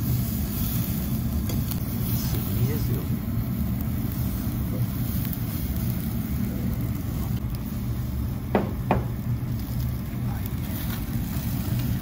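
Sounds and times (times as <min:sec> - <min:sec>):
grill exhaust rumble: 0:00.0 - 0:12.0.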